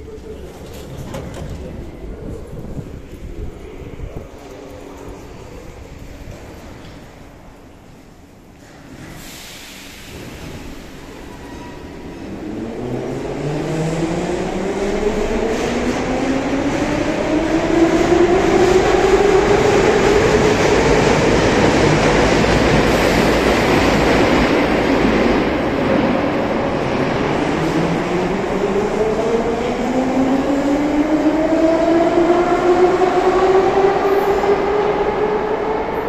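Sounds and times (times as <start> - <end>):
rumble of train wheels: 0.0 - 36.0.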